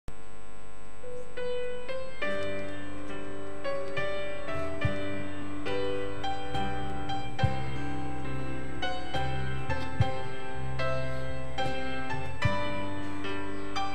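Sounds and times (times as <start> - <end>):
low piano notes: 1.0 - 13.9
piano slow melody: 1.0 - 13.9.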